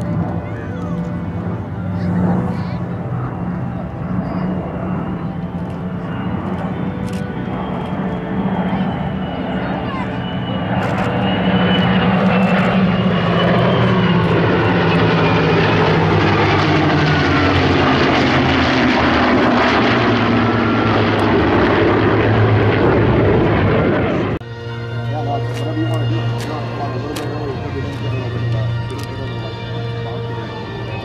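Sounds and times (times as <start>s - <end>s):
aircraft engines droning: 0.0s - 31.0s.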